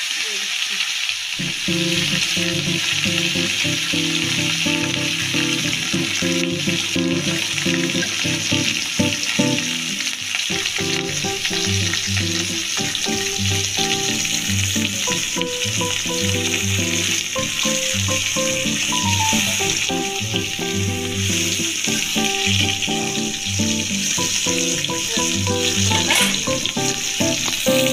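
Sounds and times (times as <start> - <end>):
fish sizzling in oil: 0.0 - 27.9.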